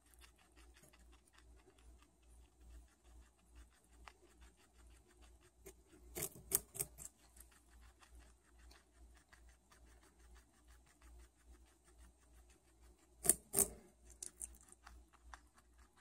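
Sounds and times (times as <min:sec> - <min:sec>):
guinea pig chewing carrot: 0:00.0 - 0:16.0.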